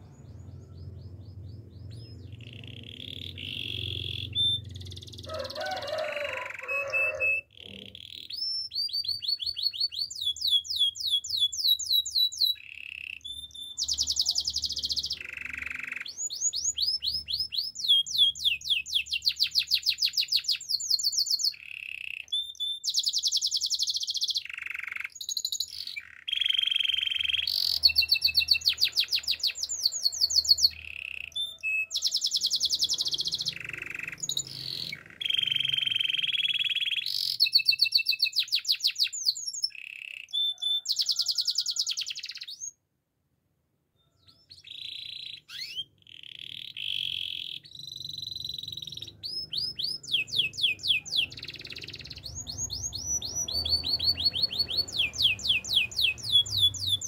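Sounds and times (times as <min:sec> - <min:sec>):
canary singing trills: 0:00.0 - 0:42.8, 0:44.0 - 0:57.0.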